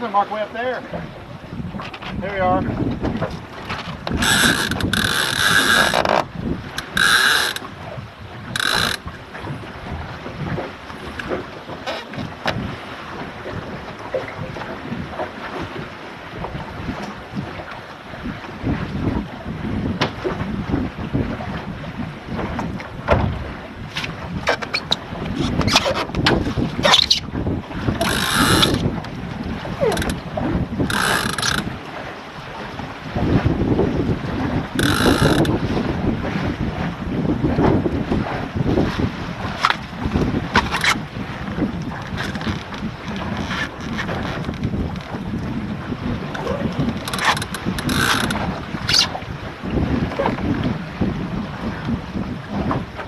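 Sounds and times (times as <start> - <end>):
water noise: 0.0 - 53.0
wind: 0.0 - 53.0.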